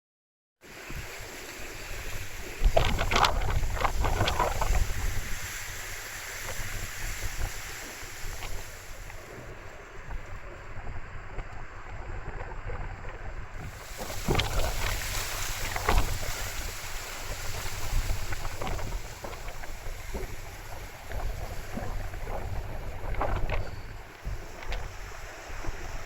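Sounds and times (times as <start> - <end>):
wind gusting over microphone: 0.8 - 26.0.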